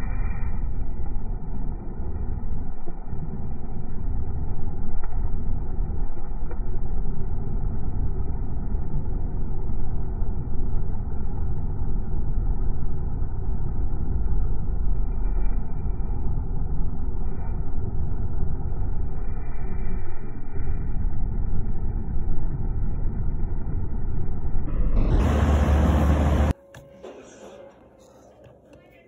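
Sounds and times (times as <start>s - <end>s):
heater fan rushing air: 0.0s - 26.6s.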